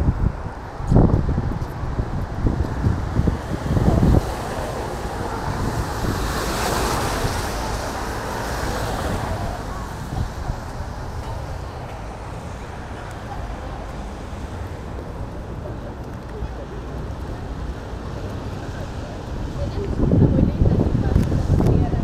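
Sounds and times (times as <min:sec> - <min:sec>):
wind buffeting microphone: 0:00.0 - 0:22.0
vehicle passing on wet street: 0:00.3 - 0:22.0.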